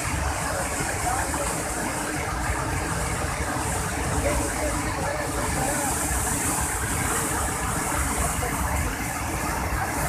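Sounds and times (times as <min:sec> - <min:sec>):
waterfall rushing over rocks: 0:00.0 - 0:10.0.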